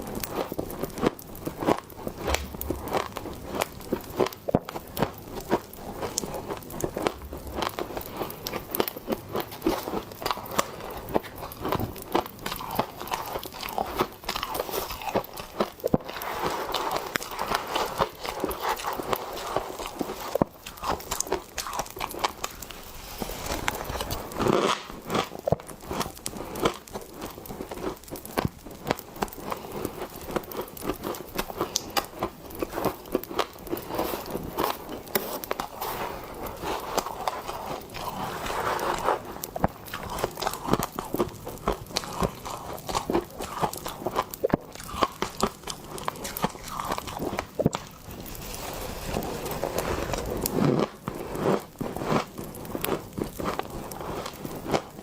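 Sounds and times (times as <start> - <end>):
crisp crunching of frost: 1.6 - 27.2, 32.8 - 54.9.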